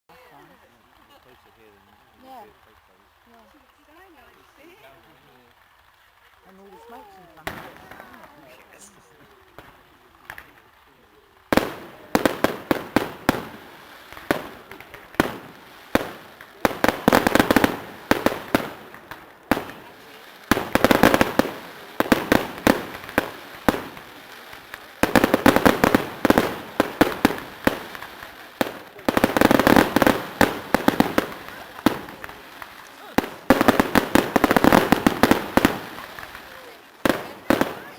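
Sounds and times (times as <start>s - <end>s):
fireworks bangs: 0.6s - 37.9s.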